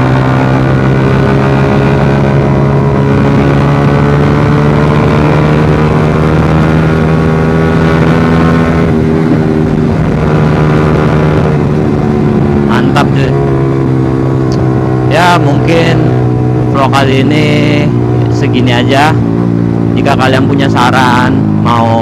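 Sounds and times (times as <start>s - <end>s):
motorcycle engine at steady revs: 0.0s - 22.0s.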